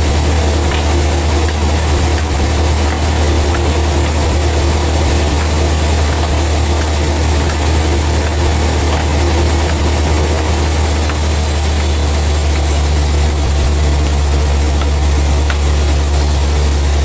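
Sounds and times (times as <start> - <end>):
heavy machinery engine idling: 0.0 - 17.0.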